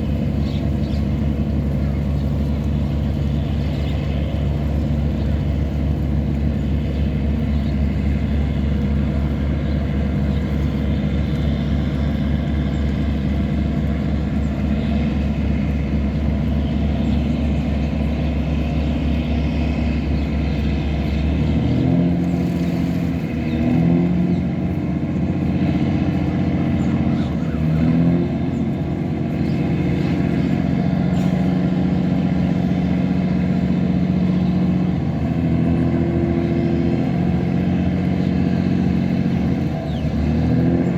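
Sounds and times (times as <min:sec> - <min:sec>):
tugboat engine droning: 0:00.0 - 0:40.9.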